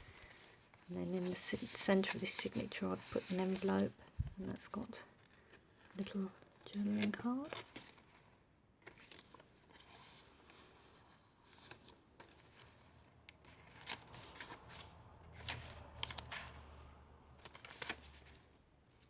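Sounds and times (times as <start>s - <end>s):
paper pages turning: 0.0s - 19.0s.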